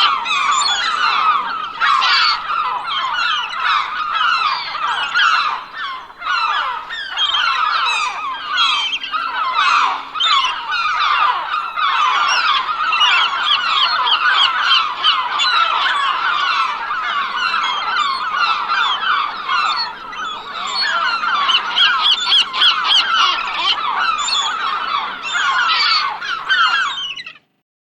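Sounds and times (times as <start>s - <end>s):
gulls calling: 0.0s - 27.6s.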